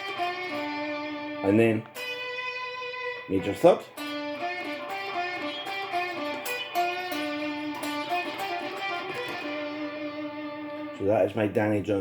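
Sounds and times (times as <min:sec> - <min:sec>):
electric guitar lick: 0:00.0 - 0:11.3.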